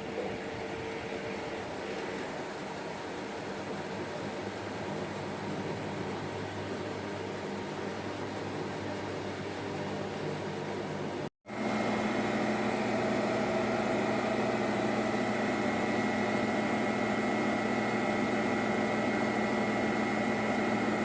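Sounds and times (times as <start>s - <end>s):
washing machine spinning: 0.0s - 21.0s.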